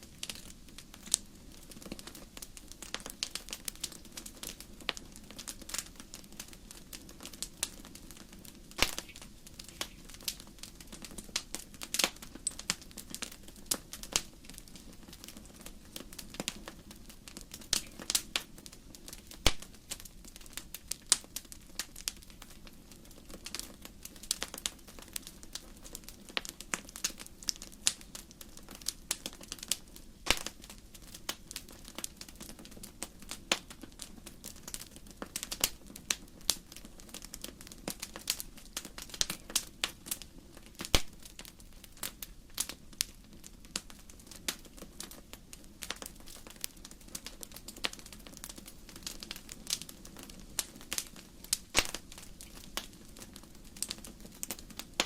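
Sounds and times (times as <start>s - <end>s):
low rumble of flame: 0.0s - 55.0s
wood fire crackling: 0.0s - 55.0s.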